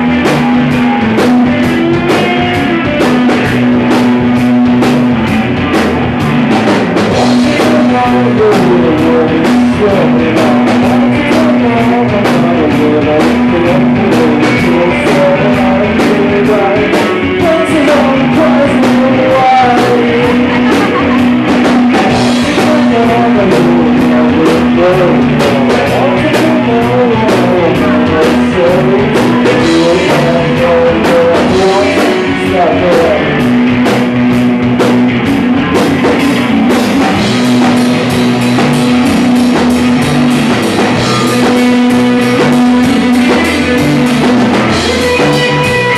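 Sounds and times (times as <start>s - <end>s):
drum kit beat: 0.0s - 45.9s
guitar: 0.0s - 45.9s
rock band playing live: 0.0s - 45.9s
person singing: 7.1s - 33.7s, 35.2s - 45.9s.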